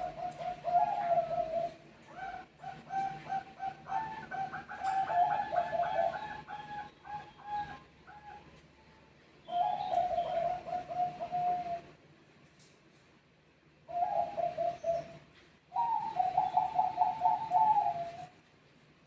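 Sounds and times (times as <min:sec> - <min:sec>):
doves cooing: 0:00.0 - 0:08.6, 0:09.5 - 0:12.0, 0:13.9 - 0:18.4.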